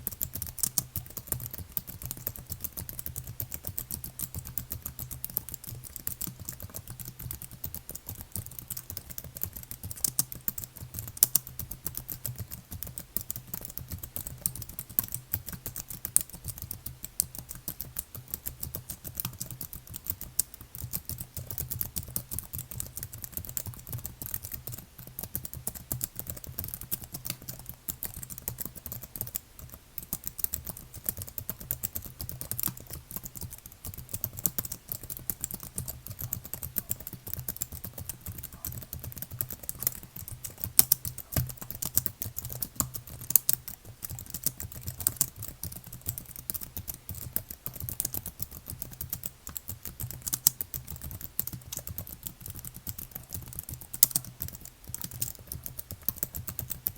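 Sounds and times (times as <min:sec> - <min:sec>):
keyboard typing: 0:00.0 - 0:56.9.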